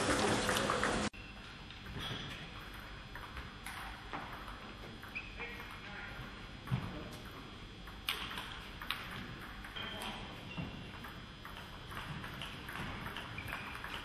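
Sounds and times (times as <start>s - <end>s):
sports hall background: 0.0s - 14.0s.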